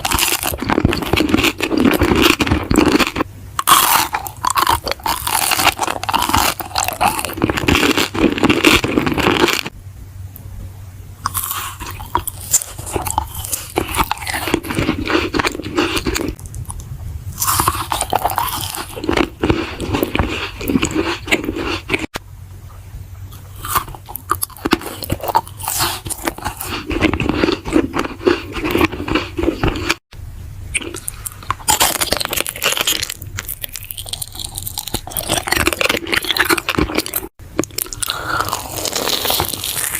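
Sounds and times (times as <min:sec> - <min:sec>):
person chewing crunchy food: 0:00.0 - 0:09.7, 0:11.2 - 0:22.2, 0:23.2 - 0:30.1, 0:30.7 - 0:39.9.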